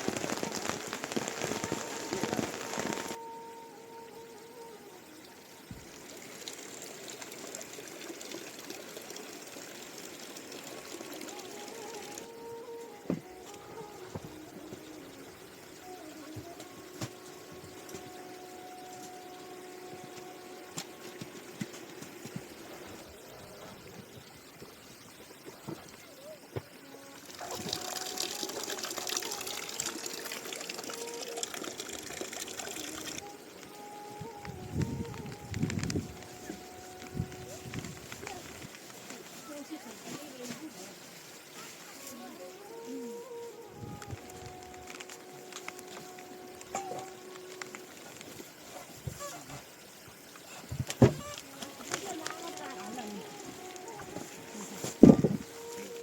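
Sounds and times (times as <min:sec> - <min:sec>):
steady rainfall: 0:00.0 - 0:03.3, 0:03.9 - 0:56.0
water trickling: 0:00.0 - 0:56.0.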